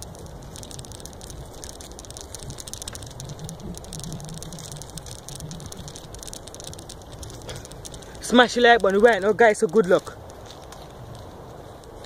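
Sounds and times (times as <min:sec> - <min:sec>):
bicycle tyres through grass: 0:00.0 - 0:12.0
bike clicking and rattling: 0:00.0 - 0:12.0.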